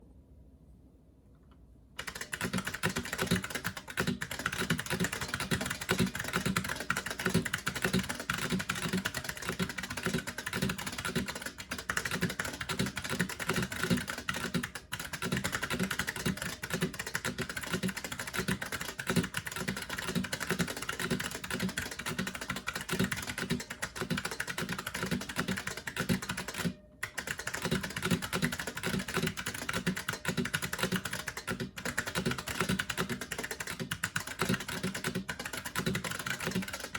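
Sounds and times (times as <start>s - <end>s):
keyboard keys clicking: 2.0s - 36.9s.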